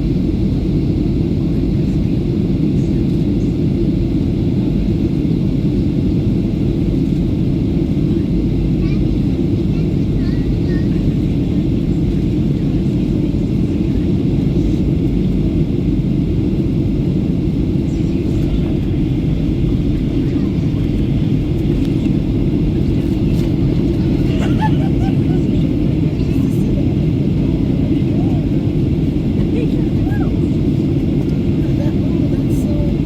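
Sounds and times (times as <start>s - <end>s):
jet engine and airflow rumble: 0.0s - 33.0s.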